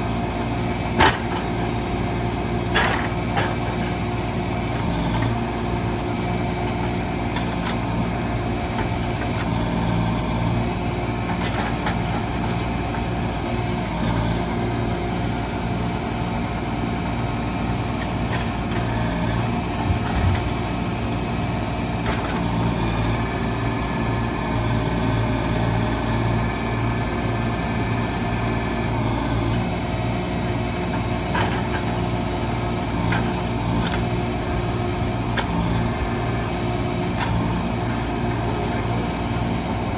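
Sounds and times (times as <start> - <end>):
machine engine running: 0.0 - 39.9.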